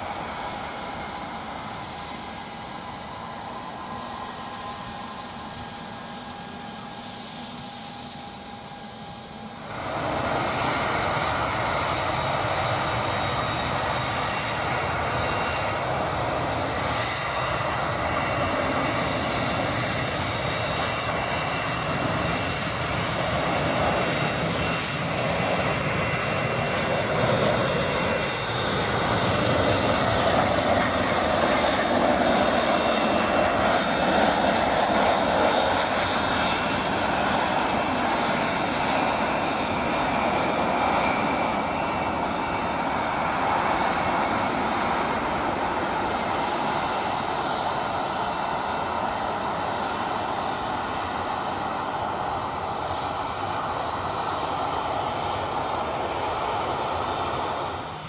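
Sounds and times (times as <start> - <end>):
faint whining tones: 0.0 - 58.0
jet engine hum: 0.0 - 58.0
jet turbofans roaring: 0.0 - 58.0.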